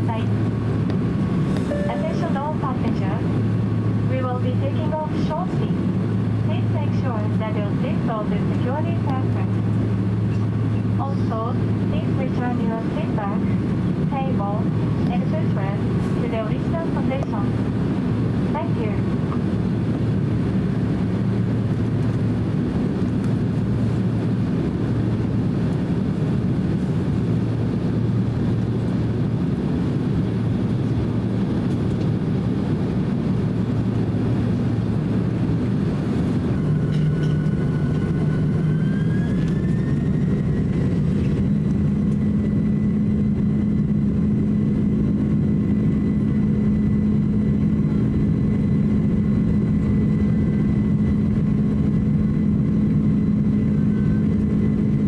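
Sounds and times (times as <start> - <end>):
jet engine whine: 0.0 - 55.0
jet engines rumbling: 0.0 - 55.0.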